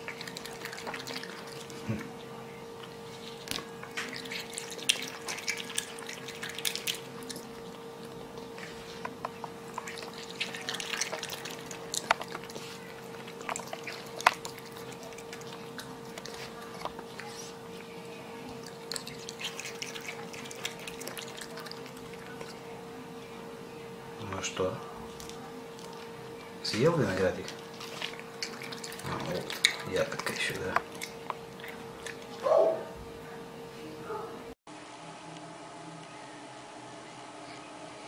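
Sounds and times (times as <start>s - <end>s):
animal chewing wetly: 0.0s - 22.9s, 25.0s - 32.9s
steady hum: 0.0s - 38.0s.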